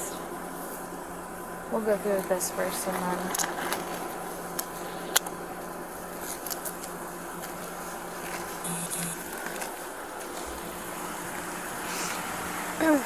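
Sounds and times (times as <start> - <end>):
faint hum: 0.0 - 13.0
roadside noise: 0.0 - 13.0.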